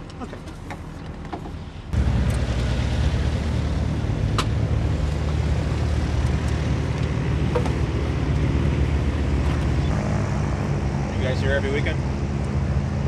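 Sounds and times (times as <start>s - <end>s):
low mechanical drone: 1.6s - 13.0s.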